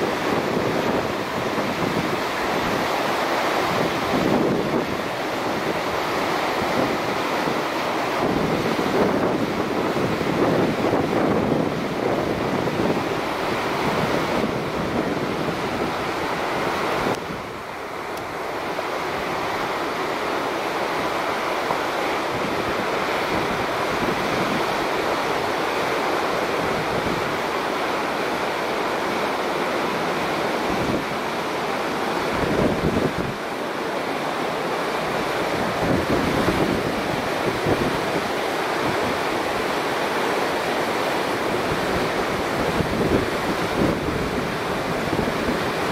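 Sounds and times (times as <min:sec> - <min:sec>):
river rushing: 0:00.0 - 0:45.9
wind gusting on microphone: 0:00.0 - 0:45.9.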